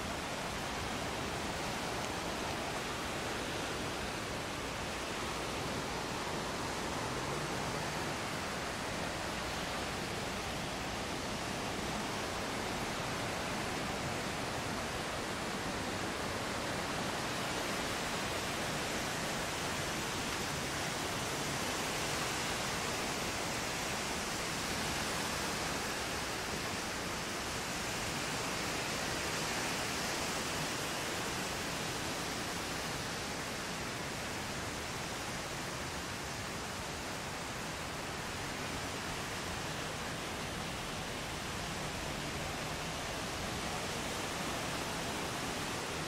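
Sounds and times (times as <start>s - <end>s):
ocean surf on beach: 0.0s - 46.0s.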